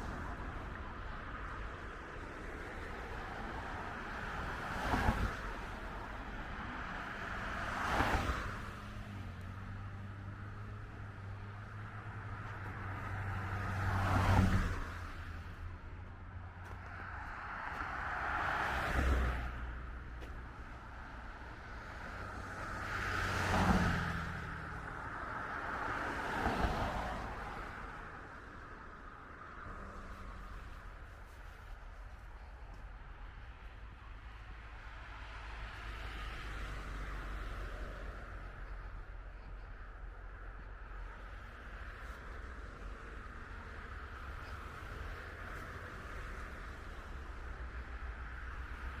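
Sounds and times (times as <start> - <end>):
cars passing: 0.0 - 49.0.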